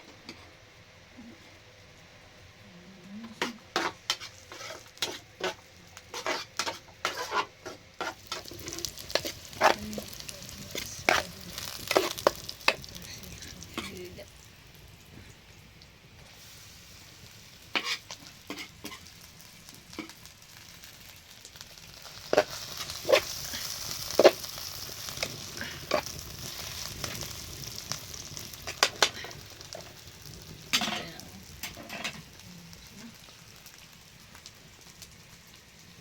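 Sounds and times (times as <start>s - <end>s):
food frying in a pan: 3.2s - 36.0s.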